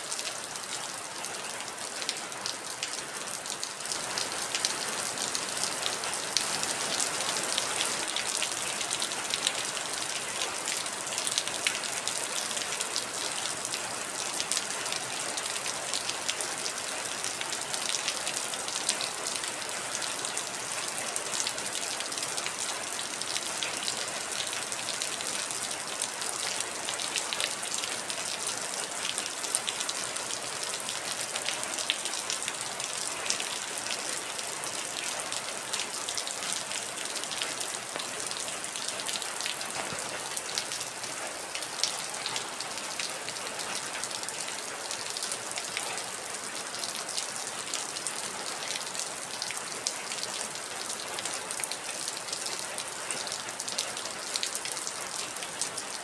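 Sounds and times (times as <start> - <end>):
heavy rain on hard surface: 0.0 - 56.0.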